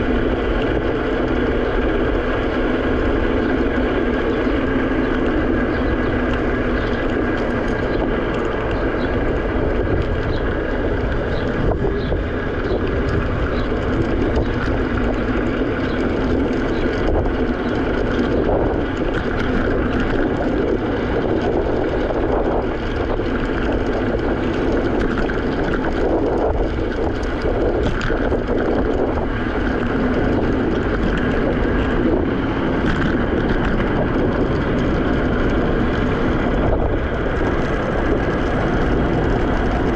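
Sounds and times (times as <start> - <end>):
electric scooter rolling: 0.0 - 39.9
wind on microphone: 0.0 - 39.9.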